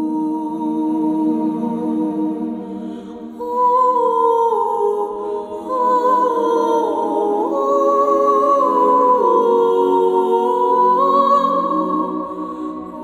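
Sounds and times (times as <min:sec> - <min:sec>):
slow sustained background music: 0:00.0 - 0:13.0.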